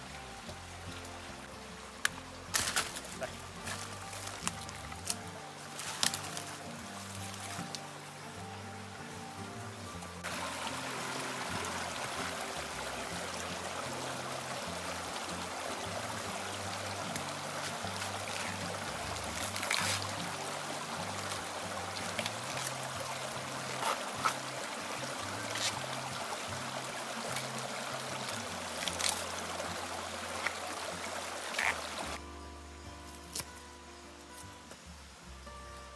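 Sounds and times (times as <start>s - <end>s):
background music of low notes: 0.0s - 35.9s
stream trickling over stones: 0.0s - 35.9s.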